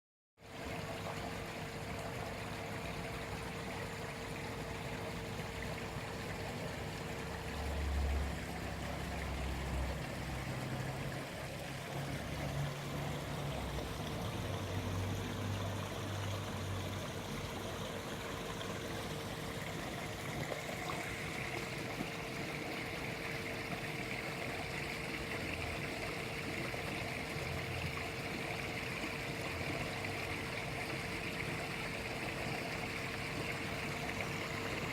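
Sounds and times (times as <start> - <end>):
small waterfall splashing: 0.4 - 34.9.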